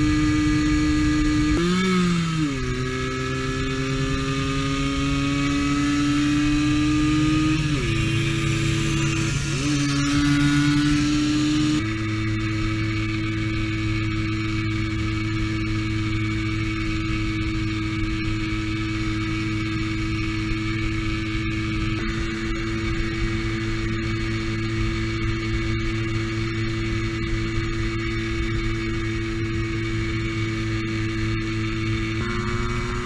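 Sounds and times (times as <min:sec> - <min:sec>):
moped engine at high revs: 0:00.0 - 0:33.0
wind and road noise: 0:00.0 - 0:33.0.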